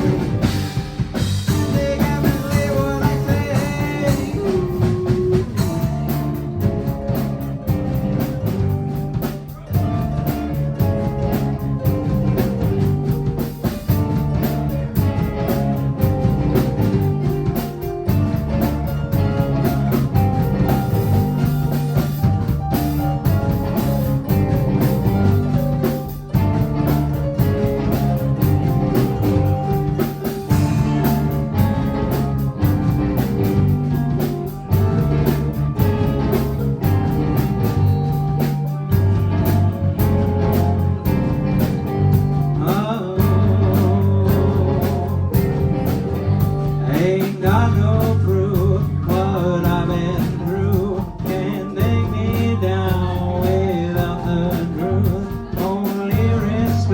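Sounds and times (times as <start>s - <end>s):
live rock band playing: 0.0s - 56.9s
repeating low bass line: 0.0s - 56.9s.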